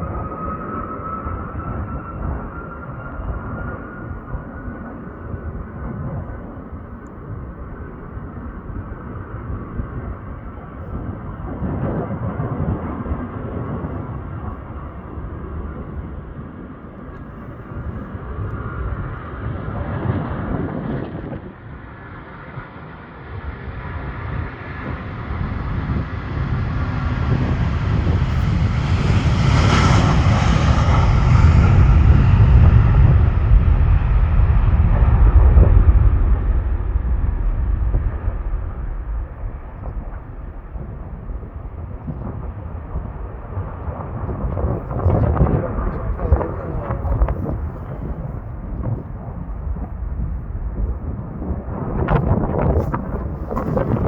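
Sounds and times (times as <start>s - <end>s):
high engine whine: 0.0s - 21.1s, 24.5s - 54.0s
deep engine rumble: 0.0s - 21.8s, 24.5s - 54.0s
jet airliner taking off: 0.0s - 54.0s.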